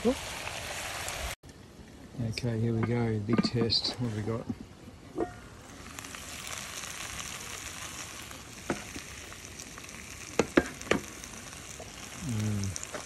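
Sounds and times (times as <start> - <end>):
meat and vegetables sizzling: 0.0 - 1.4, 2.5 - 13.0.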